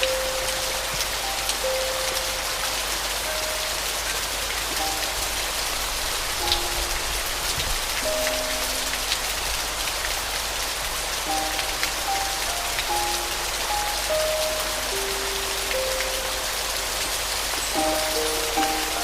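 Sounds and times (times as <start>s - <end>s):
slow piano melody: 0.0s - 19.0s
steady rain: 0.0s - 19.0s.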